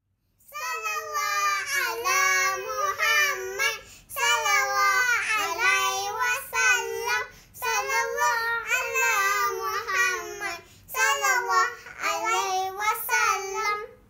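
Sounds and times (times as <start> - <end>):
children singing a devotional chant: 0.5 - 14.0.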